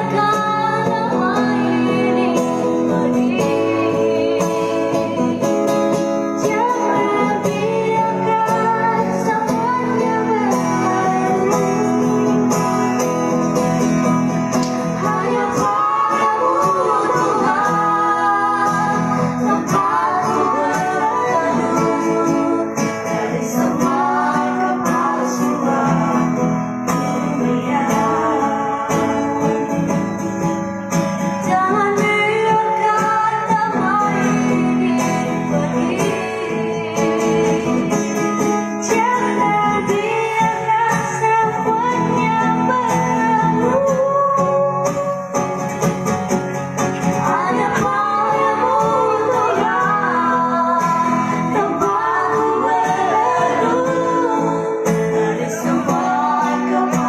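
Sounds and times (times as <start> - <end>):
acoustic guitar: 0.0 - 57.0
vocal duet singing: 0.0 - 57.0.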